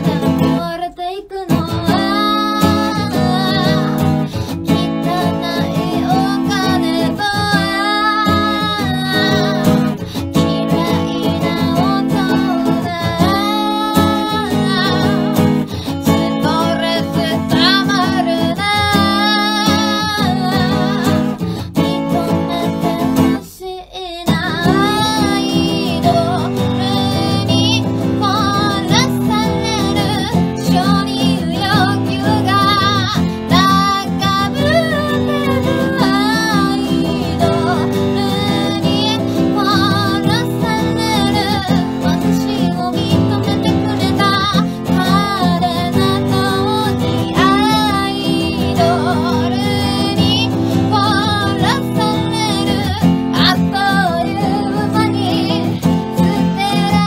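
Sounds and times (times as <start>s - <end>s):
acoustic guitar strumming: 0.0s - 23.6s, 24.2s - 57.0s
woman singing: 0.0s - 57.0s.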